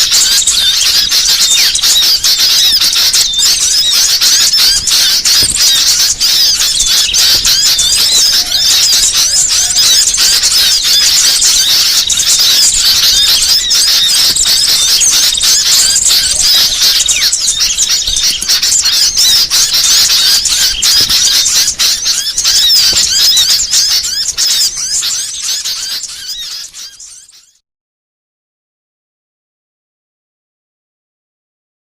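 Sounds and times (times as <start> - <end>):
songbirds chirping and twittering: 0.0 - 27.6.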